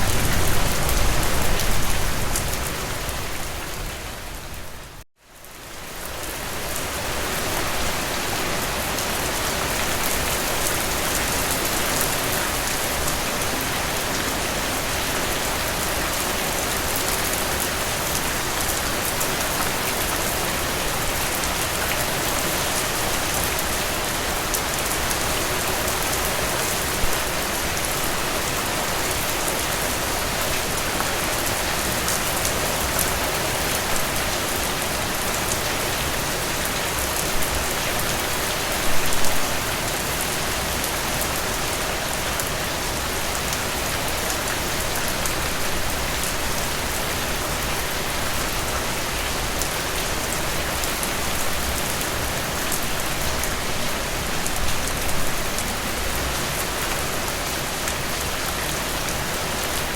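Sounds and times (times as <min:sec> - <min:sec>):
rain falling through trees: 0:00.0 - 0:59.9.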